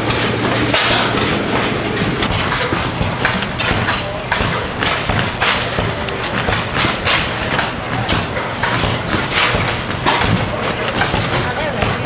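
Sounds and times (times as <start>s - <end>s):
low engine hum: 0.0s - 12.0s
stationary engine exhaust beating: 0.0s - 12.0s.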